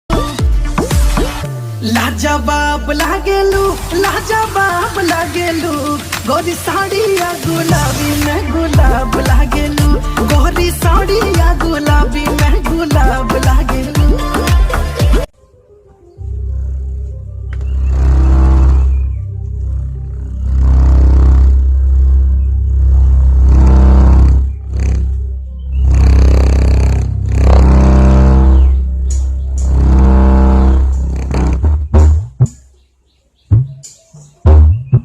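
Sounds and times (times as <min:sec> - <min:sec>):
bass-heavy music through amplifier: 0:00.1 - 0:15.3, 0:16.1 - 0:32.7, 0:33.5 - 0:35.0.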